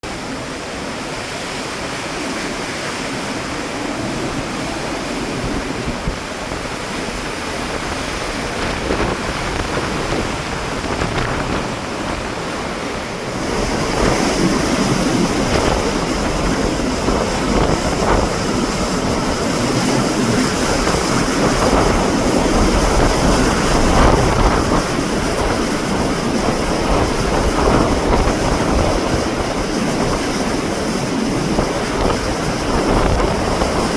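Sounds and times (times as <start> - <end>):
rain: 0.0 - 33.9
strong wind buffeting microphone: 0.0 - 33.9.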